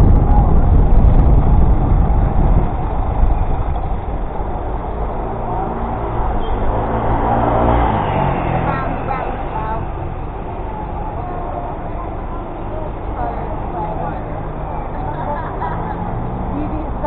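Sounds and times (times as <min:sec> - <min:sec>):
traffic rumble: 0:00.0 - 0:17.0
vehicle engine humming: 0:00.0 - 0:17.0.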